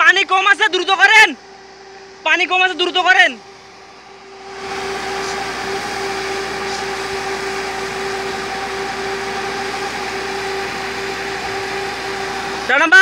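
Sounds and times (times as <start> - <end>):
pump engine hum: 0.0 - 13.0.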